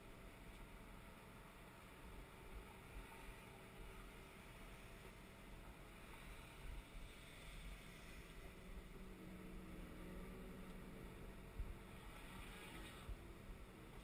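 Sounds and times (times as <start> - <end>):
diesel engine low hum: 0.0 - 14.0.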